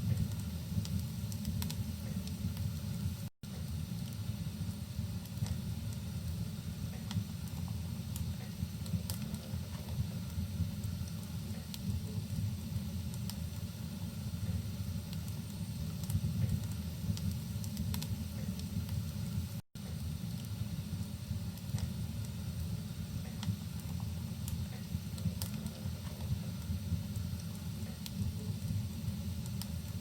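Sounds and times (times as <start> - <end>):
fire crackling and popping: 0.0 - 30.0
rain rumble: 0.0 - 30.0.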